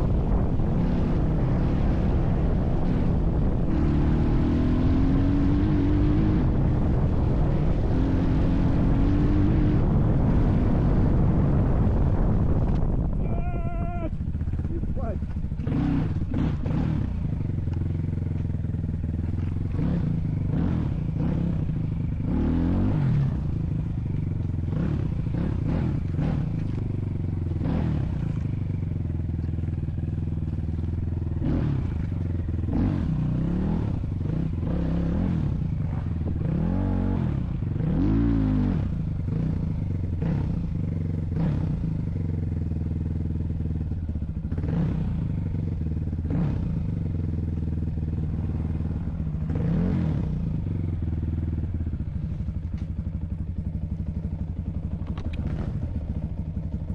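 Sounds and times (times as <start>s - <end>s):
vehicle engine revving: 0.0s - 56.9s.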